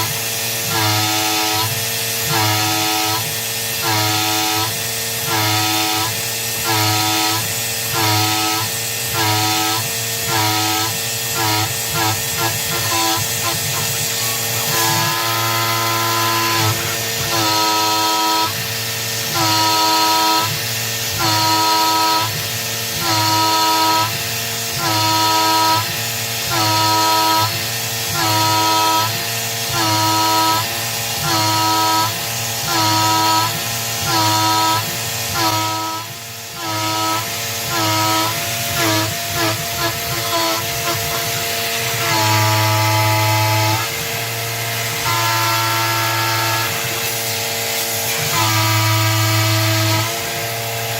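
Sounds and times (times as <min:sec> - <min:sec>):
mist coolant hiss: 0:00.0 - 0:50.9
spindle hum: 0:00.0 - 0:50.9
stepper motors whining: 0:00.0 - 0:50.9.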